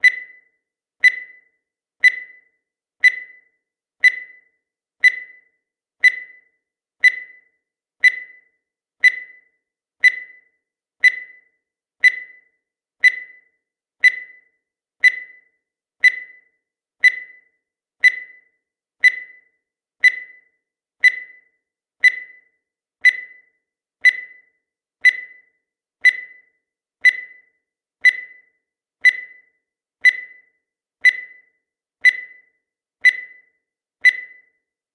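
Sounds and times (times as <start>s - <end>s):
high-pitched timer ticks: 0.0s - 34.8s.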